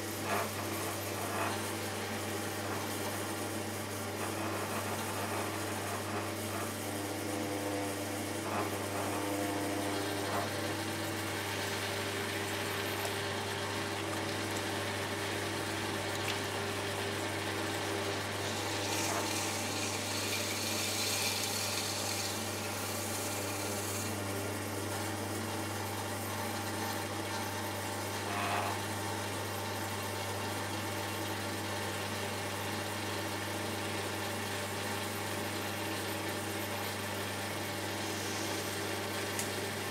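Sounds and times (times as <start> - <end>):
potter's wheel humming: 0.0 - 39.9.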